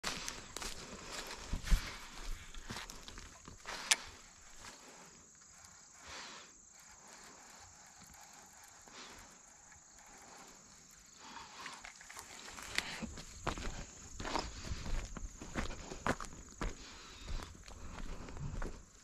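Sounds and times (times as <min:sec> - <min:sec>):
high-pitched insect chirping: 0:00.1 - 0:19.0.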